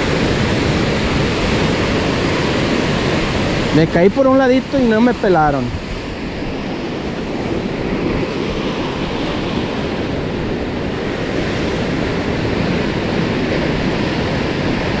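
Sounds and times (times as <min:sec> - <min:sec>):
surf washing onto rocky shore: 0:00.0 - 0:15.0
wind on microphone: 0:00.0 - 0:15.0.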